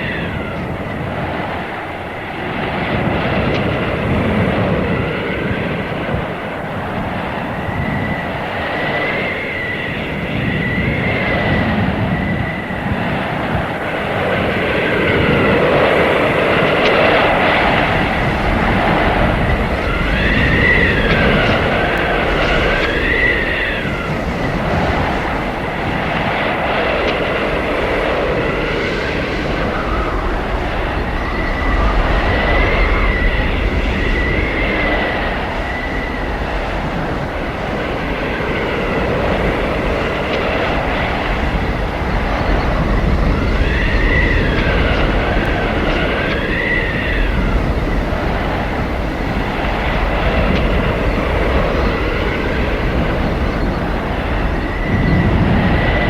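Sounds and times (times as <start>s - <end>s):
blizzard wind gusting: 0.0s - 56.0s.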